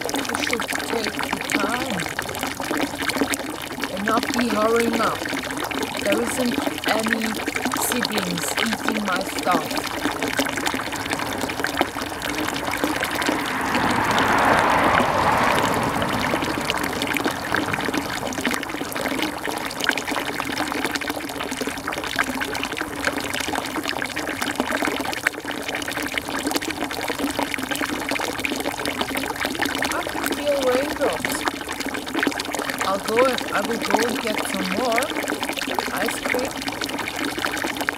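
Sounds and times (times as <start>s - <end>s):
rushing trickling water: 0.0s - 37.9s.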